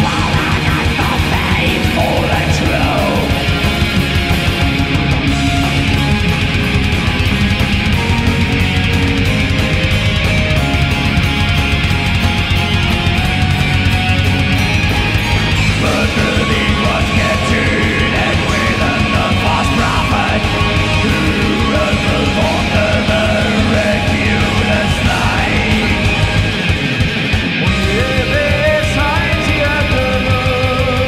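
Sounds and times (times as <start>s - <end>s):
bass guitar: 0.0s - 31.0s
distorted electric guitars: 0.0s - 31.0s
drum kit: 0.0s - 31.0s
melodic lead guitar line: 0.0s - 31.0s.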